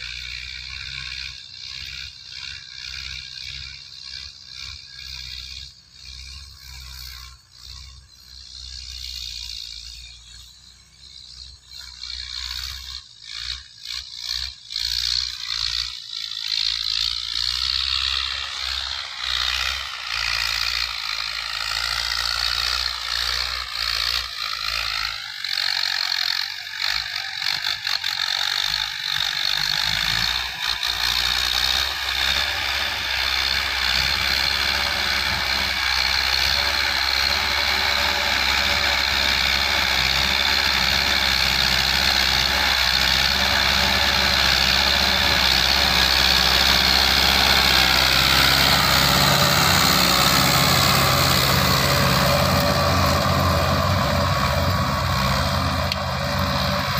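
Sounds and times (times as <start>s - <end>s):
tractor diesel engine clattering: 0.0s - 10.0s, 11.2s - 56.9s.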